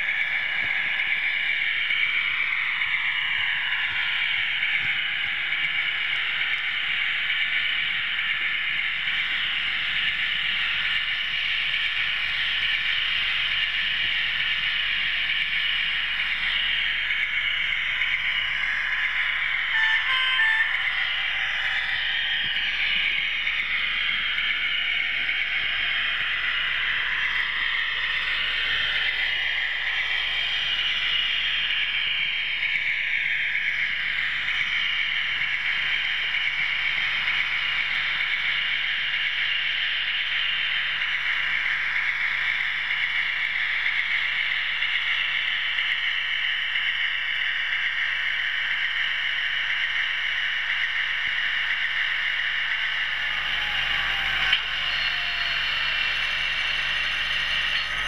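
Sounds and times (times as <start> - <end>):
model train whirring on track: 0.0 - 58.0.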